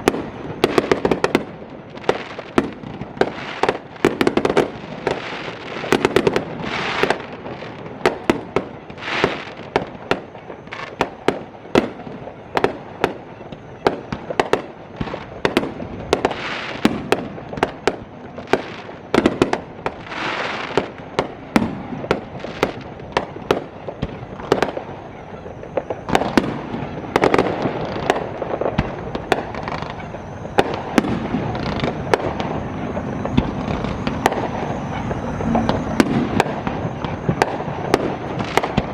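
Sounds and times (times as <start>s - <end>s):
fireworks bangs: 0.0s - 38.9s
fireworks crackling and fizzing: 0.0s - 38.9s.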